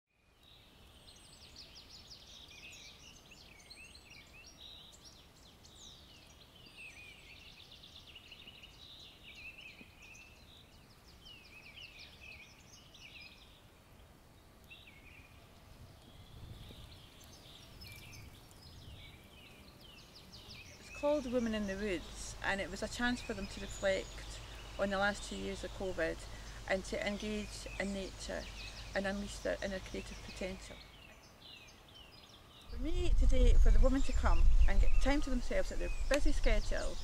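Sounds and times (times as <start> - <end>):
low outdoor background noise: 0.1 - 37.0
small birds chirping and trilling: 0.2 - 37.0.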